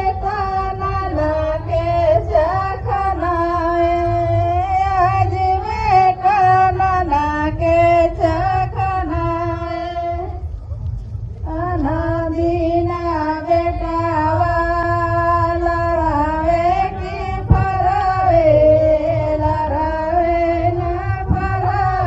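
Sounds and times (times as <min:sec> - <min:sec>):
woman singing into microphone: 0:00.0 - 0:10.5, 0:11.4 - 0:22.0
steady low rumble: 0:00.0 - 0:22.0.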